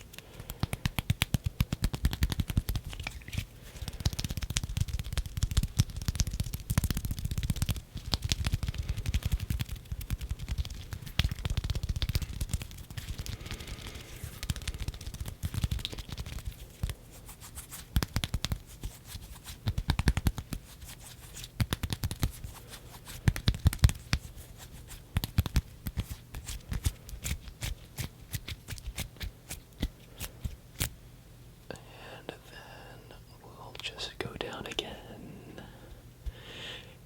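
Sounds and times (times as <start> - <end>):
hand clicks pats and rustles: 0.0 - 31.0.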